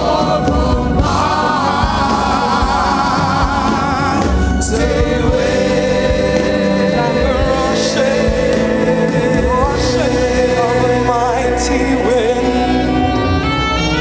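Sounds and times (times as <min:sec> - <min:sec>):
choir singing with accompaniment: 0:00.0 - 0:14.0.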